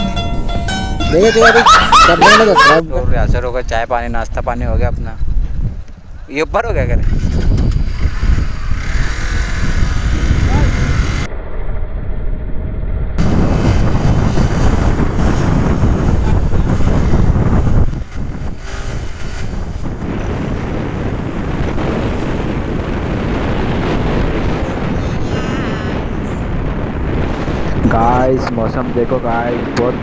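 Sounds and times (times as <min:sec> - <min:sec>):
motorcycle engine and road noise: 0:00.0 - 0:30.0
wind rushing over microphone: 0:00.0 - 0:30.0.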